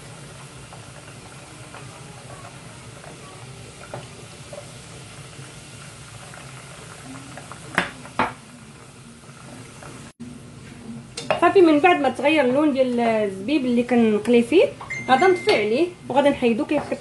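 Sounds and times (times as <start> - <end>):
oil sizzling with pops: 0.0 - 10.2, 11.1 - 17.0.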